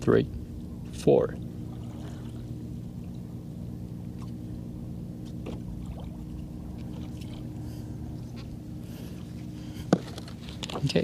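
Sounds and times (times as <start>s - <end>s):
steady low hum: 0.0s - 11.0s
water lapping against kayak hull: 0.3s - 11.0s.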